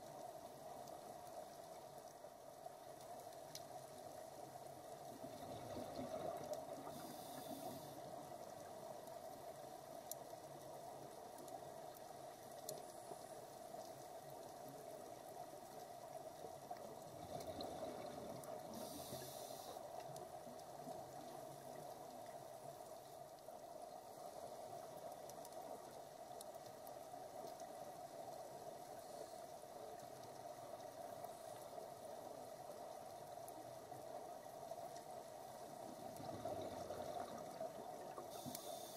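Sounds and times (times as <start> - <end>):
faint underwater hiss: 0.0 - 38.9.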